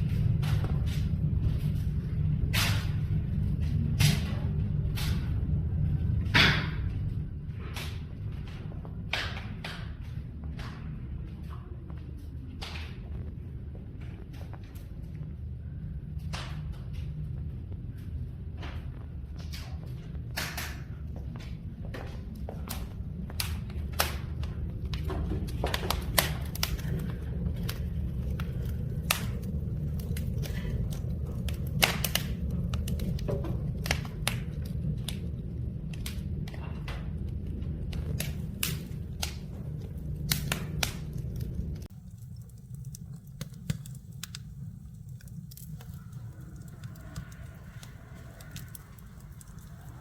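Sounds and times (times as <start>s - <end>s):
fire crackling and popping: 0.0s - 50.0s
low rumble of flame: 0.0s - 50.0s.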